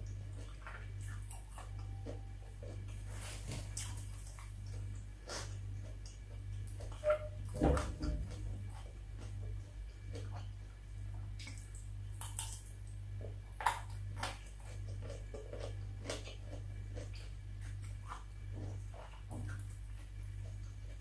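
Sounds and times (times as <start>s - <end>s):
crunchy chewing of cucumber: 0.0s - 21.0s
low electrical hum: 0.0s - 21.0s.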